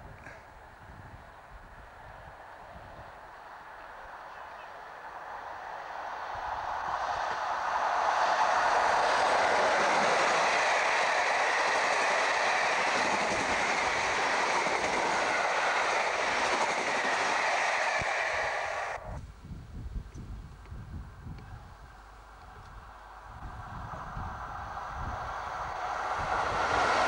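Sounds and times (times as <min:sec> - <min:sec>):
passenger train passing at speed: 0:00.0 - 0:19.2, 0:20.6 - 0:27.0.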